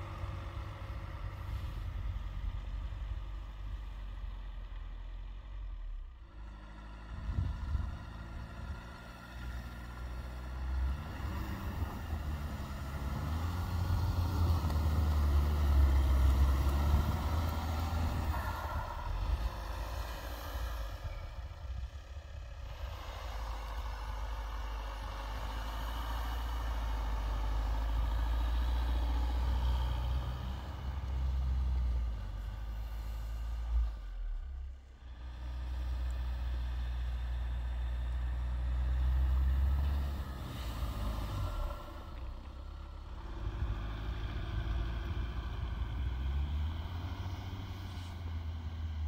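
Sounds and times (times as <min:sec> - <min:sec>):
diesel engine under heavy load: 0:00.0 - 0:49.0
tyres churning through snow: 0:00.0 - 0:49.0.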